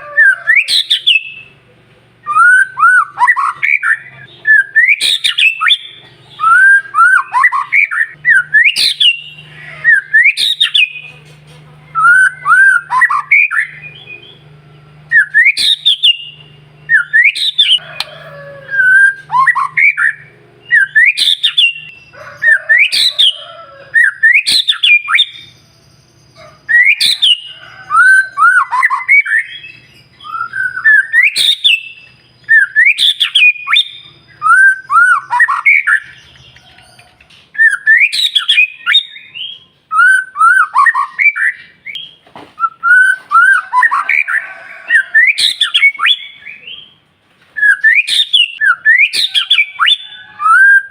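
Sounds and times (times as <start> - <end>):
bird whistling and warbling: 0.0 - 1.6, 2.2 - 50.9.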